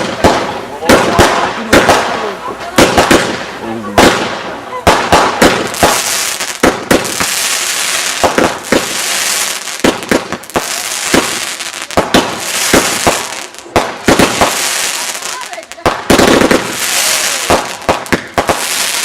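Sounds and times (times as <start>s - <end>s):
fireworks bangs: 0.0s - 19.0s
high crackling hiss of fireworks: 0.0s - 19.0s.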